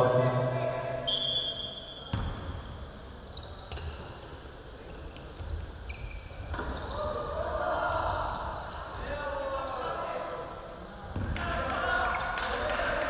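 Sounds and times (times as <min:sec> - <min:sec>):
sneakers squeaking: 0:00.6 - 0:11.4.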